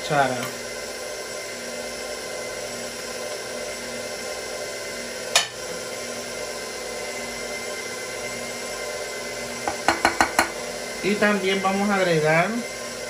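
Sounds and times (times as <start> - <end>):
stand mixer whisking batter: 0.0 - 13.0.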